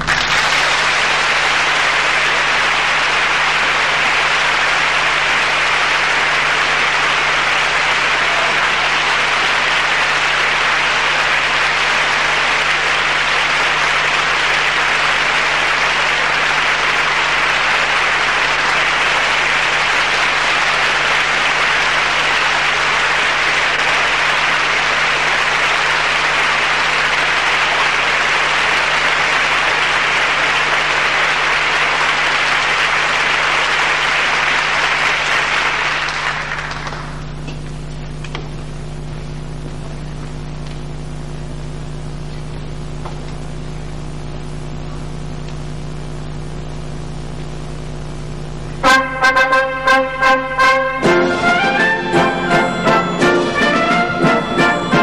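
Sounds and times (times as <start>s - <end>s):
audience applauding: 0.0s - 44.2s, 45.1s - 55.0s
faint low hum: 0.1s - 51.1s.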